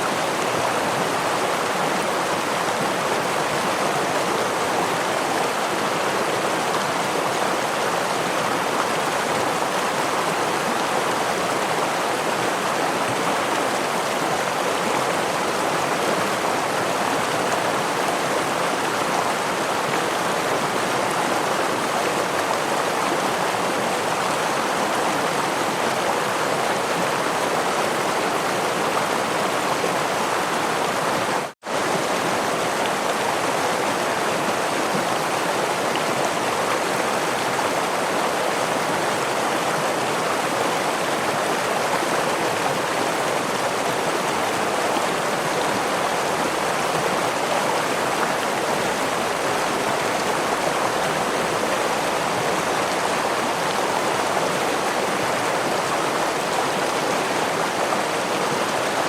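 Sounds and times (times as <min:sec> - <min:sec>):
stream and small waterfall rushing: 0:00.0 - 0:59.0.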